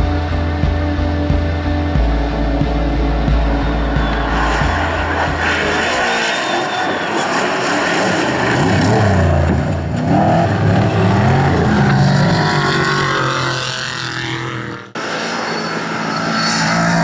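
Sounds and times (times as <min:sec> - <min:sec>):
truck engine at high revs: 0:02.0 - 0:17.0.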